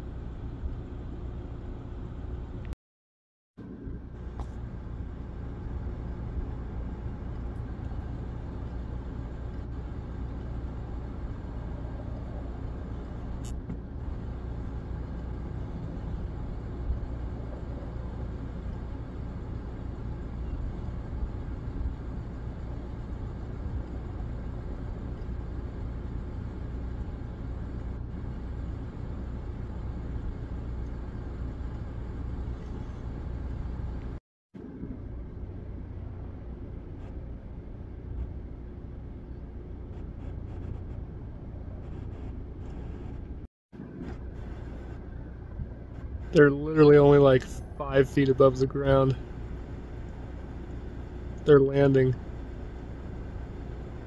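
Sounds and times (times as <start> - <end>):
road noise: 0.0 - 2.8, 3.6 - 54.0
vehicle engine humming: 0.0 - 2.8, 3.6 - 54.0.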